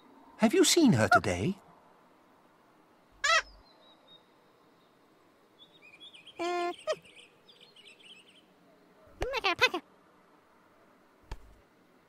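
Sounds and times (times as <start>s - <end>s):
birdsong chirping faintly: 0.0s - 12.0s.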